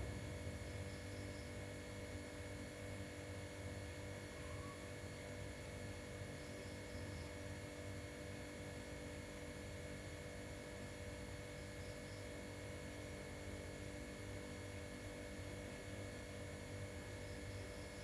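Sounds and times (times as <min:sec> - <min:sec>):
faint hum with constant tones: 0:00.0 - 0:18.0.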